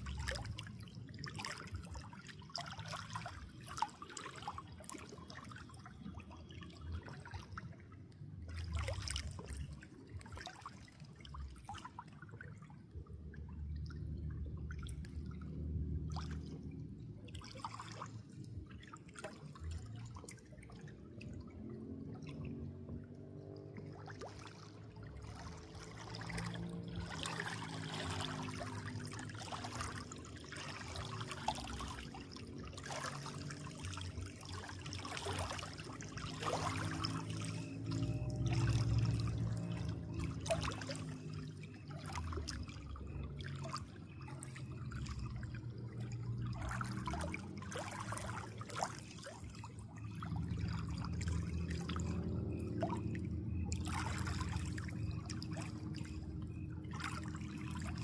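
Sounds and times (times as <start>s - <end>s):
small splashes and drips: 0.0s - 58.0s
water trickling and gurgling: 0.0s - 58.0s.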